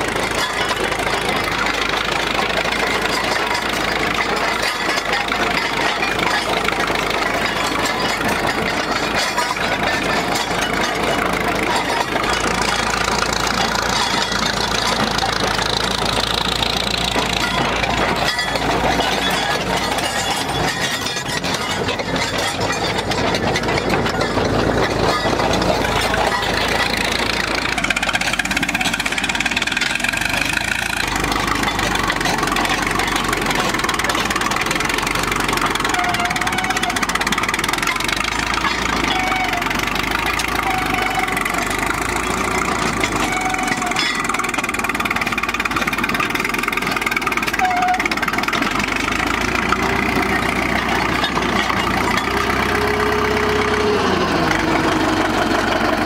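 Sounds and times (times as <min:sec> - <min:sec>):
bulldozer engine running: 0:00.0 - 0:56.0
crawler tracks moving: 0:00.0 - 0:56.0.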